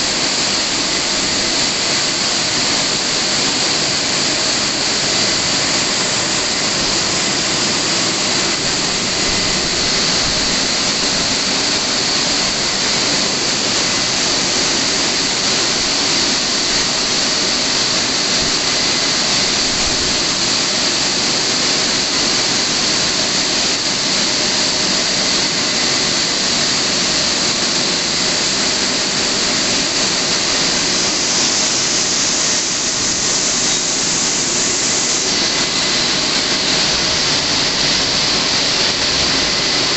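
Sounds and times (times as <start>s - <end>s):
car wash rushing hiss: 0.0s - 39.9s
faint steady whine: 0.0s - 39.9s.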